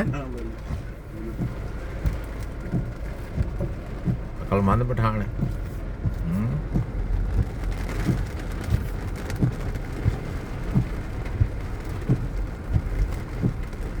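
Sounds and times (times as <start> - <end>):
low thuds: 0.0 - 14.0
rain falling: 0.0 - 14.0.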